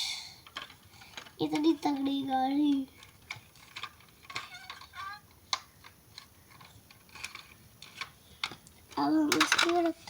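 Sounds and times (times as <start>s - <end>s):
toy car clicks and taps: 0.4s - 10.0s.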